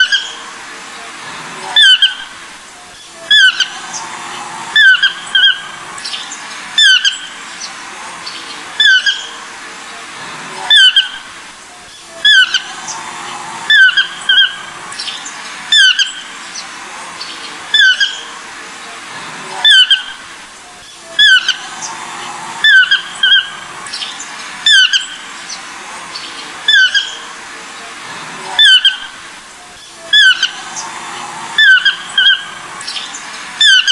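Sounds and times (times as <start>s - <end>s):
steady background hiss: 0.0s - 33.9s.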